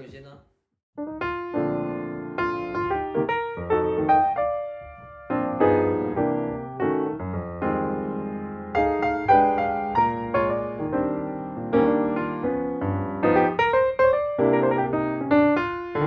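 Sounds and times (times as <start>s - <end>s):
piano melody over chords: 1.0s - 16.0s.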